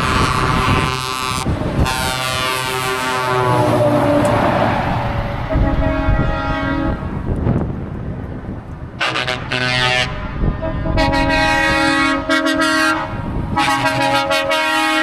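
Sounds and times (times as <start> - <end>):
truck horns sounding: 0.0 - 7.2, 9.0 - 15.0.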